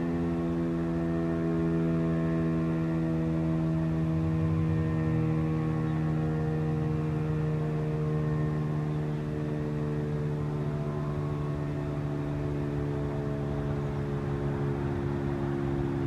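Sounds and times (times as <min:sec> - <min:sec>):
warning siren wailing: 0:00.1 - 0:16.0.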